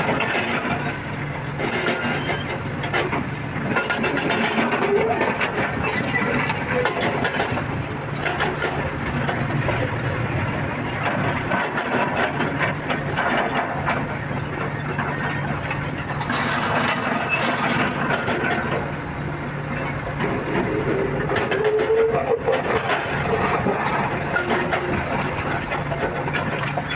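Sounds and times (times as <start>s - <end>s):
excavator diesel engine running: 0.0s - 26.9s
knocks and clanks: 1.6s - 9.9s, 10.9s - 18.9s, 19.8s - 26.9s.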